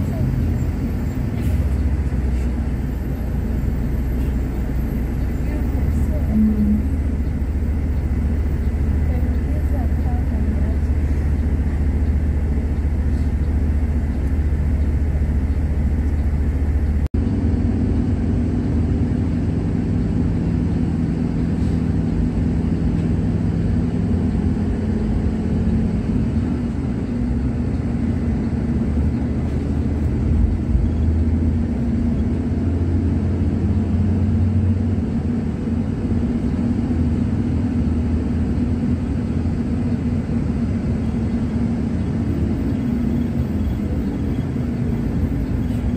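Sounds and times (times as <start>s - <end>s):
bus engine drone: 0.0s - 45.9s
road rumble: 0.0s - 45.9s.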